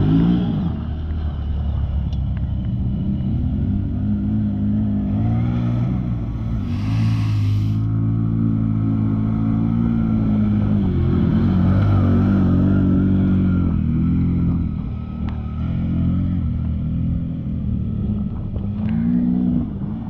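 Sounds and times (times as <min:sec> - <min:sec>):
atv engine running: 0:00.0 - 0:20.0
atv accelerating past: 0:02.9 - 0:20.0.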